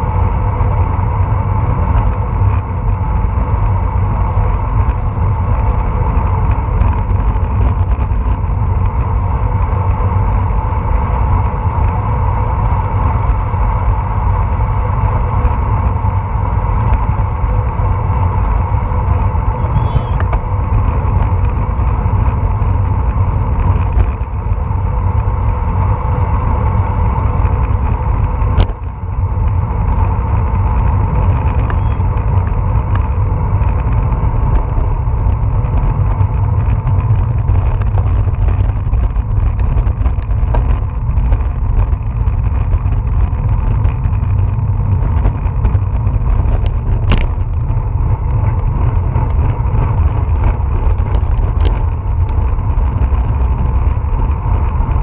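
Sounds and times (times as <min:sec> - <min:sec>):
tyre and road noise: 0:00.0 - 0:55.0
wind buffeting microphone: 0:00.0 - 0:55.0.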